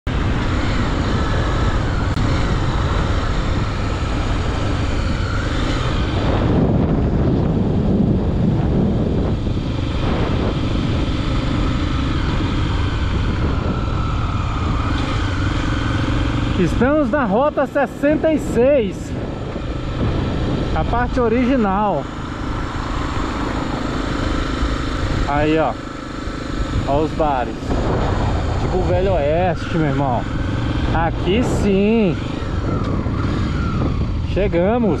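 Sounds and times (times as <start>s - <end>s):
motorcycle engine running: 0.0s - 35.0s
wind rush on microphone: 0.0s - 35.0s.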